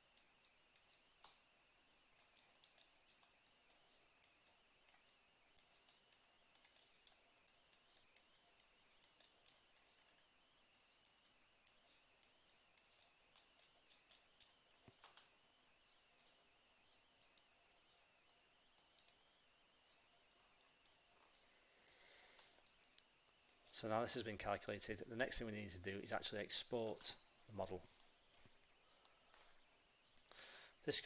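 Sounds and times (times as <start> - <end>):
computer mouse clicks: 0.0 - 23.8, 28.0 - 30.4.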